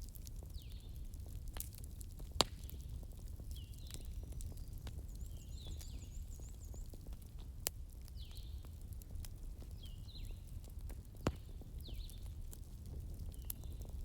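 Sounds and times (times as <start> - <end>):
fire crackling: 0.0 - 14.0
fire popping: 0.0 - 14.0.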